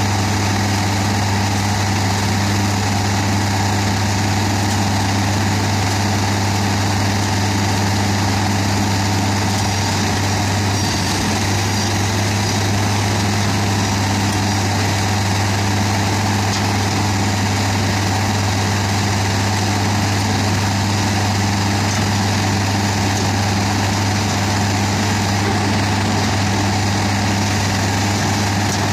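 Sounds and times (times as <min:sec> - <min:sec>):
shredder diesel engine running: 0:00.0 - 0:28.9.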